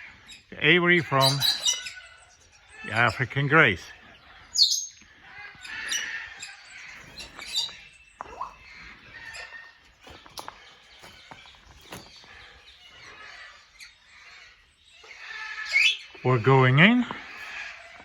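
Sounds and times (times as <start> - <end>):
parrots chirping and calling: 0.0 - 18.0.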